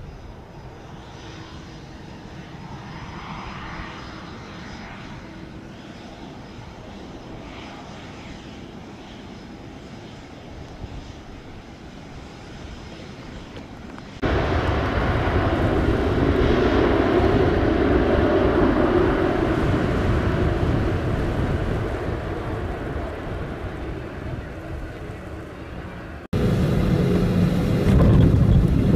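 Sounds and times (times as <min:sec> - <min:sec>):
jet engines rumbling: 0:00.0 - 0:28.9.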